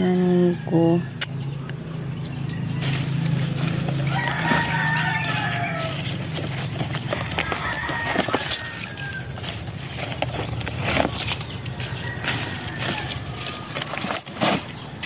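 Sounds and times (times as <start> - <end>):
low outdoor rumble: 0.0 - 15.0
rustles and taps of plants: 2.8 - 15.0.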